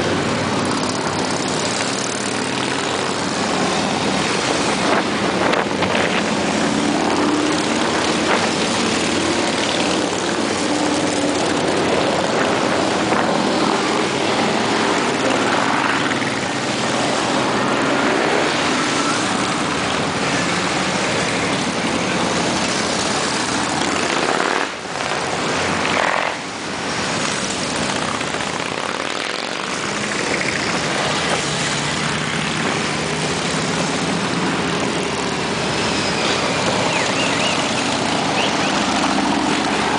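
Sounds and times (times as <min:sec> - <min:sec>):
motorcycles riding past: 0:00.0 - 0:39.9.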